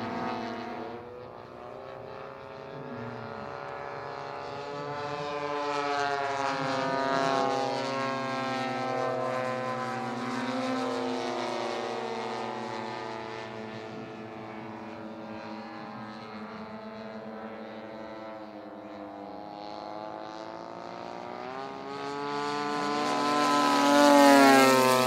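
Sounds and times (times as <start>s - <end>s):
model aircraft engines droning: 0.0s - 25.0s.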